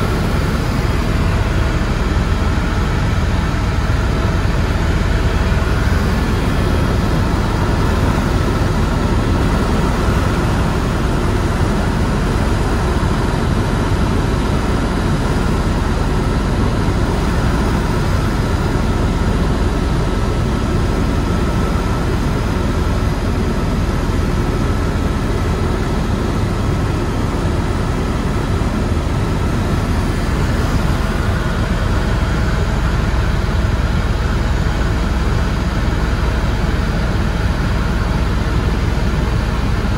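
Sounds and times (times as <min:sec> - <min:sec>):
faint steady whines: 0:00.0 - 0:39.9
helicopter engine and rotor: 0:00.0 - 0:39.9.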